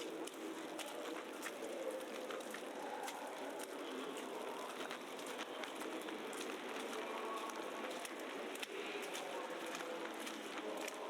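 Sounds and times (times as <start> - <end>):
light ticks and crackles: 0.0 - 11.0
street noise: 0.0 - 11.0.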